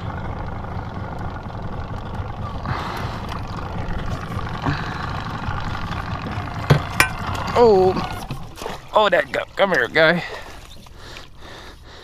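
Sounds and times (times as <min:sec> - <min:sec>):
outboard motor running: 0:00.0 - 0:12.0
water noise: 0:00.0 - 0:12.0.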